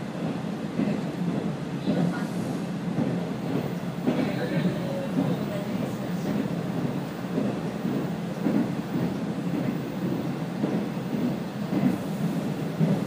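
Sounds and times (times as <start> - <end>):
diesel railcar rumbling: 0.0 - 13.0.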